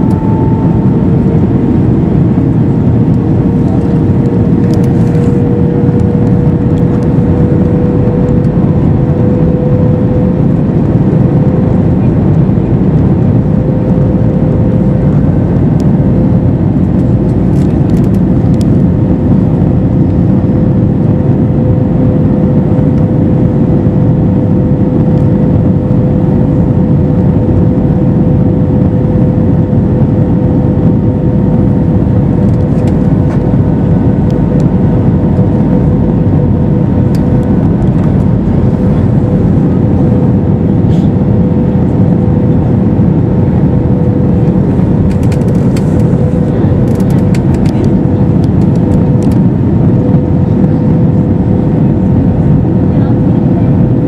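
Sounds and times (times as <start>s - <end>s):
jet engine drone: 0.0s - 54.0s
rushing air: 0.0s - 54.0s
steady hum: 0.0s - 54.0s.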